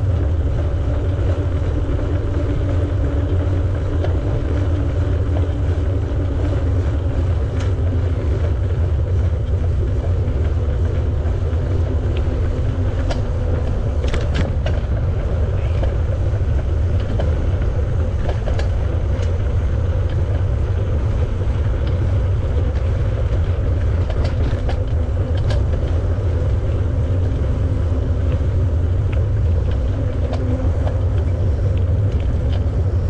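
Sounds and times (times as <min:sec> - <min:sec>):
bicycle tyres rolling: 0:00.0 - 0:33.0
wind rushing over microphone: 0:00.0 - 0:33.0.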